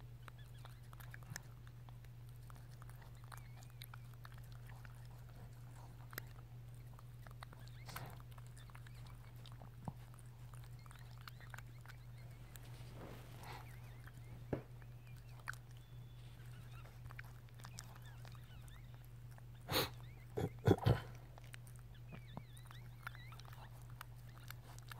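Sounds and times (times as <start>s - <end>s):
dog chewing wet clicks: 0.0s - 20.4s, 21.1s - 24.9s.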